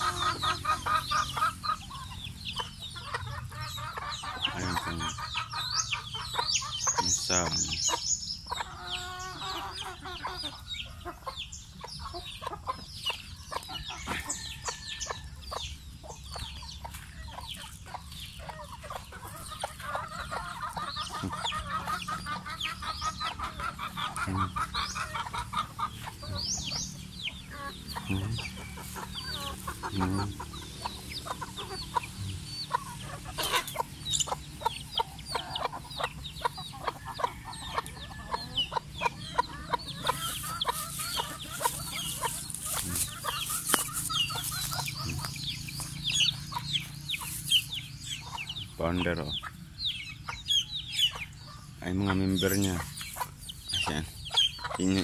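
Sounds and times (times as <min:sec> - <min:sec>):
chickens clucking and chirping: 0:00.0 - 0:55.0.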